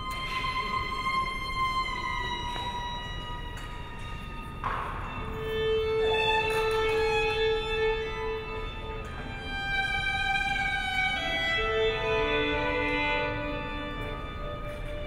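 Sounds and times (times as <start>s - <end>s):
slow violin music: 0.0s - 15.0s.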